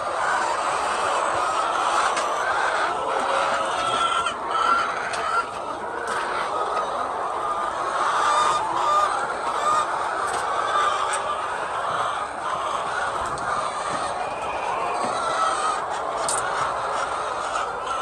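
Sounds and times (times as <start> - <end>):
flock of chickens clucking: 0.0 - 18.0.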